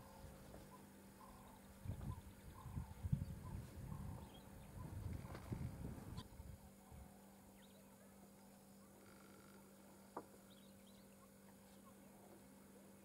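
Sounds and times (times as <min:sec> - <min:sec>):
faint bird chirps: 0:00.0 - 0:13.0
steady low hum: 0:00.0 - 0:13.0.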